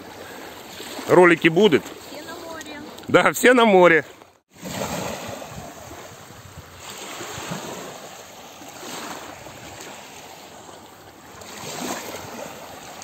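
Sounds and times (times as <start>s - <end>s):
small waves lapping on sand: 0.0s - 13.0s.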